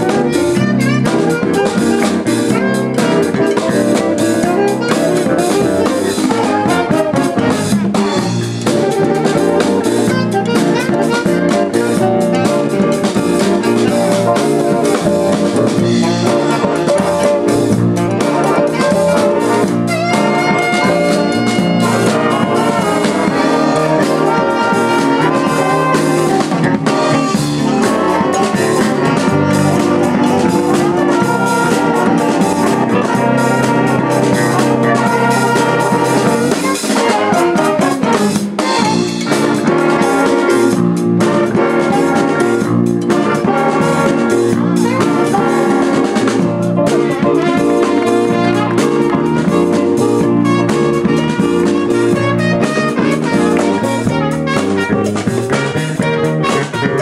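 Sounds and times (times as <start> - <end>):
horn band playing jazz-funk: 0.0 - 57.0.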